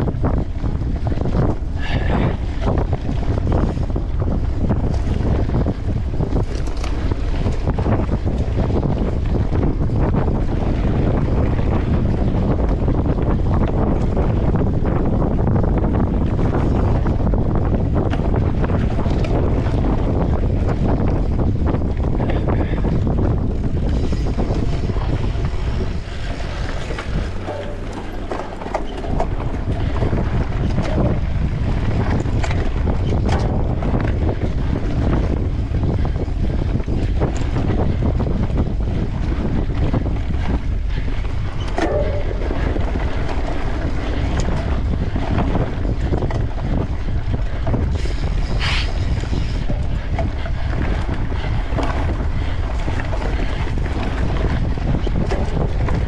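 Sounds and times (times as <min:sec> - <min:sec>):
bike rattling and knocking: 0:00.0 - 0:56.0
wind buffeting microphone: 0:00.0 - 0:56.0.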